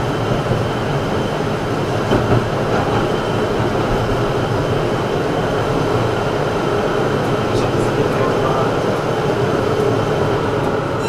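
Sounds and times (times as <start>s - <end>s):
tram wheels on rails: 0.0s - 11.0s.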